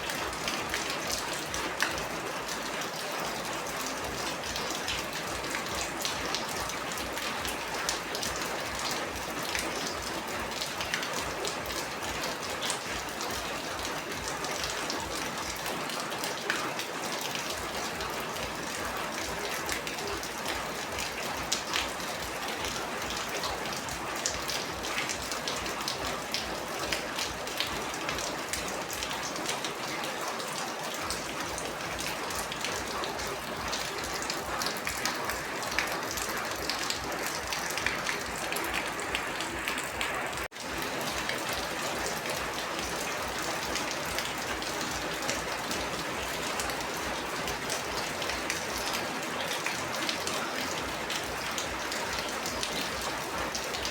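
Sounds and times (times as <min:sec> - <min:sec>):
rain drops pattering: 0:00.0 - 0:53.9.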